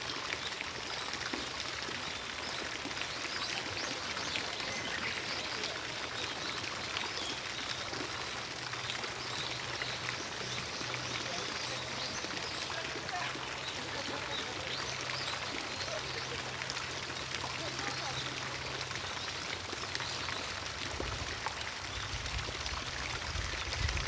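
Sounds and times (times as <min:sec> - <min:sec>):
fountain splashing: 0:00.0 - 0:24.0.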